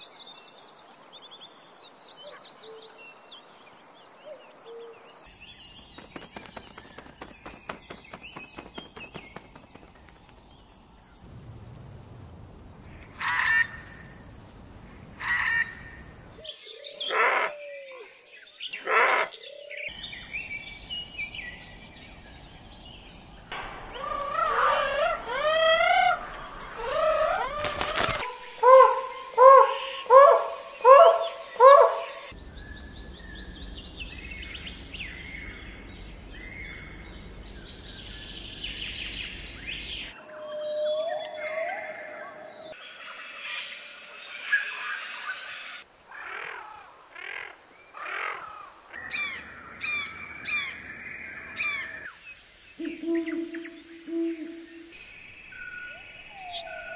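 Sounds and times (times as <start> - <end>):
bird chirps: 0.0 - 11.3, 17.8 - 45.8, 47.8 - 56.9
warbling birdsong: 0.0 - 56.9
loud bird calls: 4.1 - 11.4, 12.7 - 52.2.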